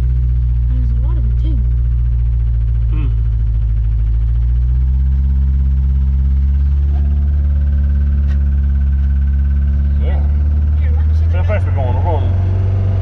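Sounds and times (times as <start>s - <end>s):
pickup engine droning with rod knock: 0.0s - 13.0s.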